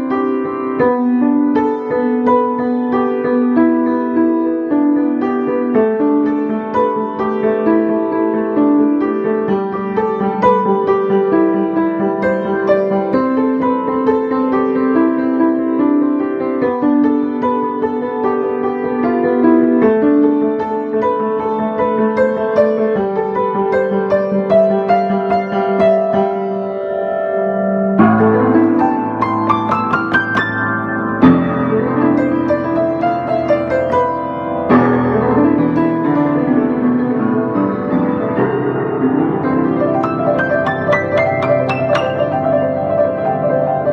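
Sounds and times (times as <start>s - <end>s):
solo piano improvising: 0.0s - 43.9s.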